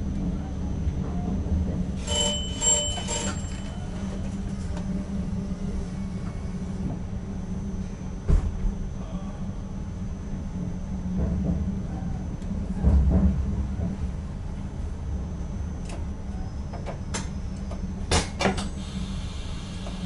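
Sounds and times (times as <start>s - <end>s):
train cab drone: 0.0s - 20.0s.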